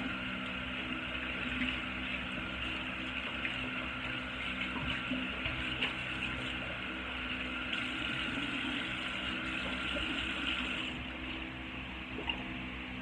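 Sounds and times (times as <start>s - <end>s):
tap water running: 0.0s - 11.5s
low steady hum: 0.0s - 13.0s.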